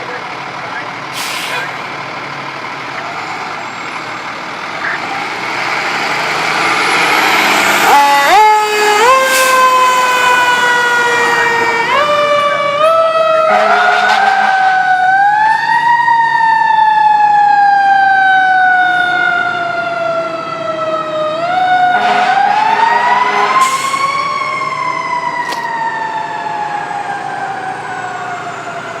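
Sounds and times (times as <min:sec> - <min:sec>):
fire engine siren: 0:00.0 - 0:29.0.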